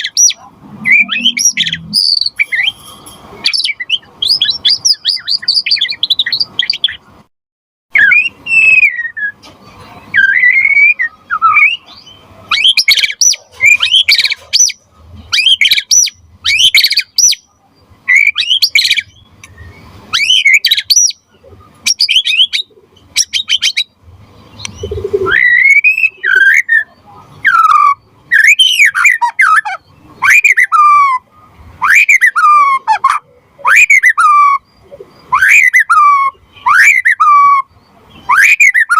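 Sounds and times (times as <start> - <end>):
bird singing loudly: 0.0 - 2.8, 3.4 - 7.0, 7.9 - 9.4, 10.1 - 24.0, 24.6 - 38.9.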